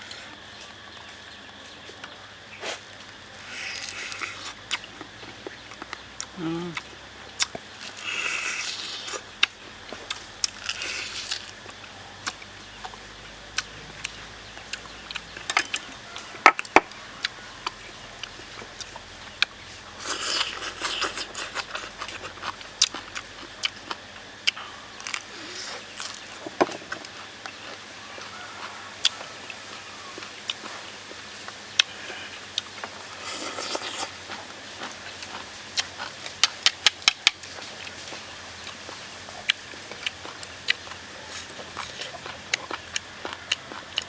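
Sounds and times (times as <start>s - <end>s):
person chewing and biting: 2.6s - 44.0s.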